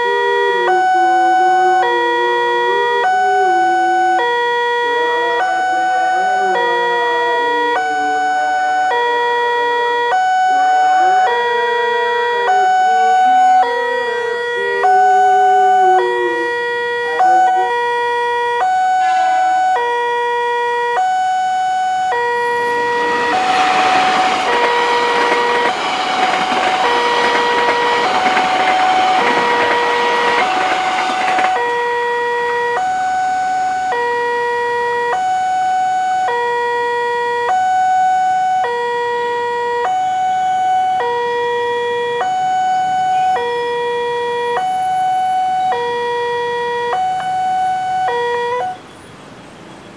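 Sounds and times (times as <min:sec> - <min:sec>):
level crossing two-tone alarm: 0:00.0 - 0:48.9.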